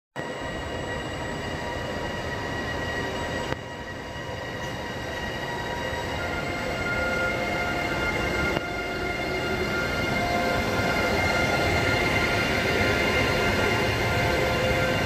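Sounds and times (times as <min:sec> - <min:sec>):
freight train rumbling past: 0:00.2 - 0:15.0
high-pitched squeal: 0:00.2 - 0:15.0.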